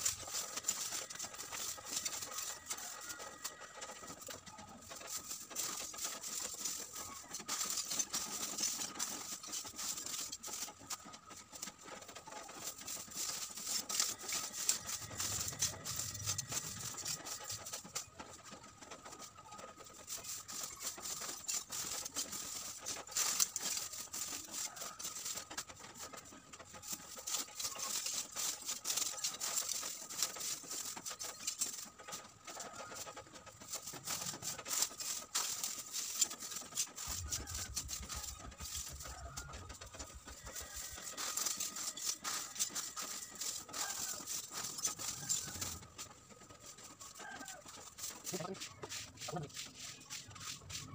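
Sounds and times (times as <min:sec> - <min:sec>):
charcoal clinking and scraping: 0:00.0 - 0:50.9
plastic bags crinkling: 0:00.0 - 0:50.9.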